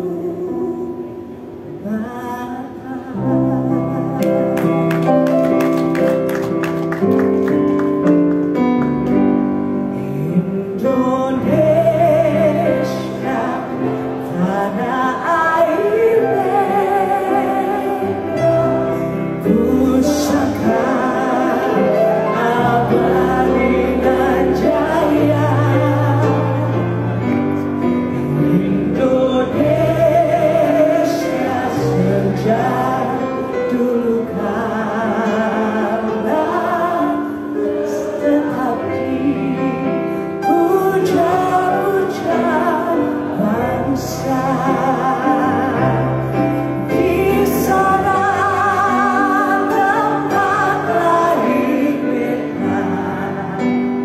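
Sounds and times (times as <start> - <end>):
woman singing with vibrato: 0.0 - 4.9, 9.9 - 27.2, 28.2 - 54.0
keyboard accompaniment: 2.6 - 54.0.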